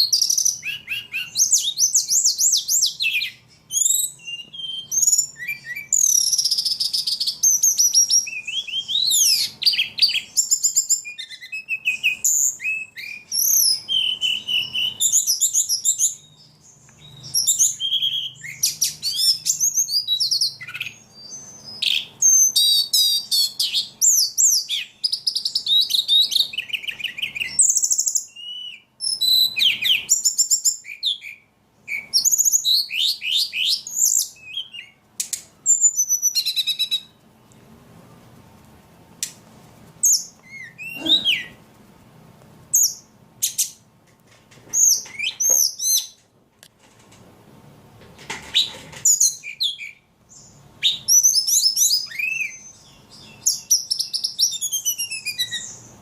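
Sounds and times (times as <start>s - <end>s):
songbird singing: 0.0s - 38.3s, 40.0s - 41.6s, 42.4s - 43.9s, 44.7s - 46.3s, 48.4s - 56.0s.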